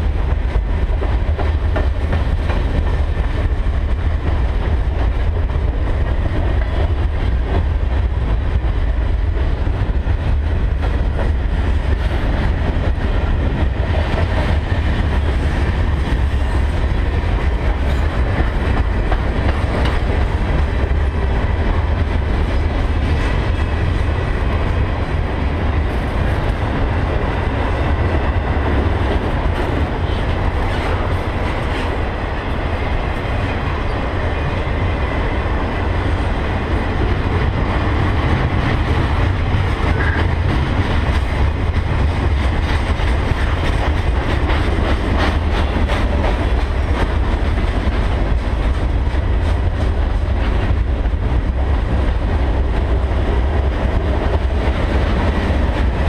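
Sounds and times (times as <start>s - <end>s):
clickety-clack over rail joints: 0.0s - 56.0s
steel wheels rumbling on rails: 0.0s - 56.0s.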